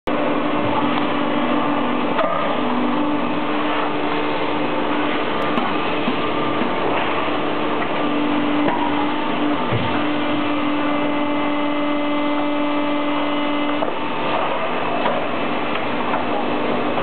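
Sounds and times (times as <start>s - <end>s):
machine hum: 0.0s - 17.0s
injection moulding machine running: 0.1s - 17.0s.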